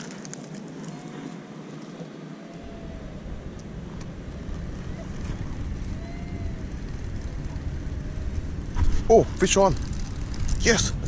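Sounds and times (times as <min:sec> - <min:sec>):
wind buffeting microphone: 0:01.4 - 0:11.0.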